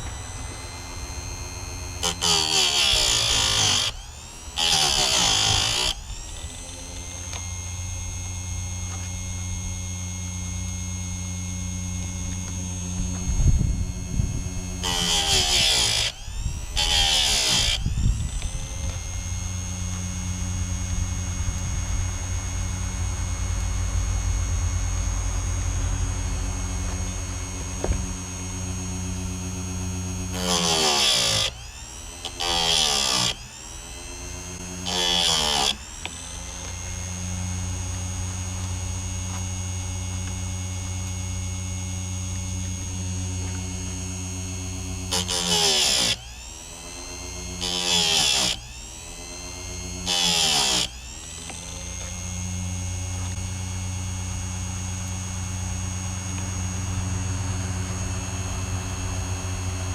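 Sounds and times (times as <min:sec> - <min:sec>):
grinding wheel on chain teeth: 0:00.0 - 0:10.0, 0:12.0 - 0:59.9
grinding wheel motor hum: 0:00.0 - 0:59.9.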